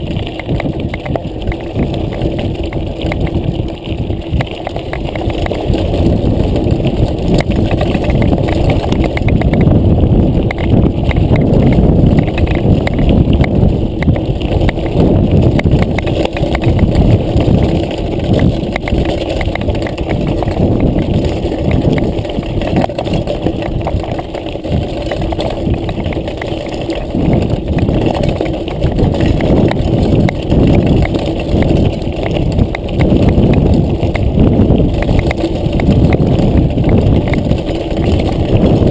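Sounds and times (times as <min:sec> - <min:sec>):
bike tyres crunching on gravel: 0:00.0 - 0:38.9.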